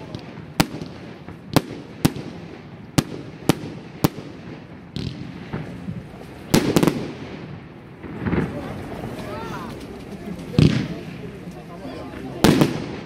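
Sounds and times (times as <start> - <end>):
firework bangs: 0.0 - 13.0
soft firework burst: 0.0 - 13.0.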